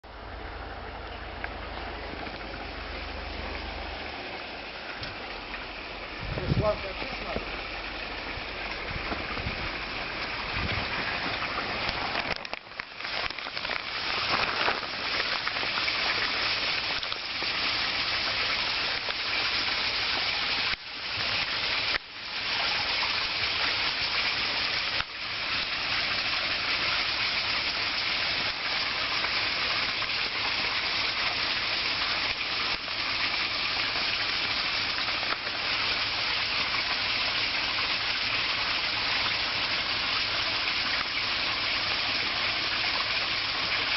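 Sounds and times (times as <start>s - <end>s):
waterfall splashing into pond: 0.0s - 43.9s.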